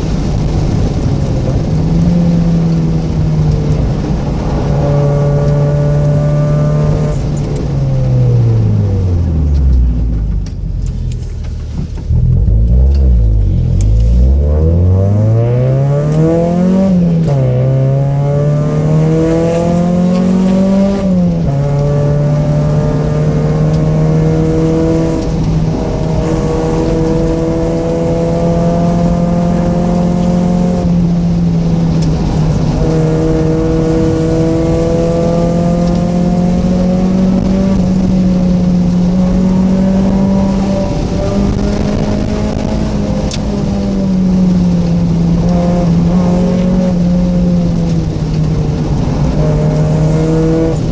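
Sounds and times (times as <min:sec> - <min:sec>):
four-cylinder engine revving: 0:00.0 - 0:50.9.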